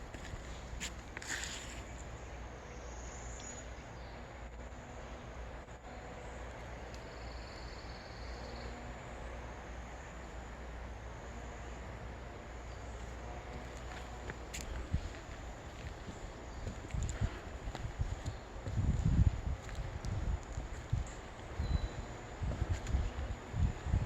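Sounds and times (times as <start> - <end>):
low rumble and hiss: 0.0 - 24.0.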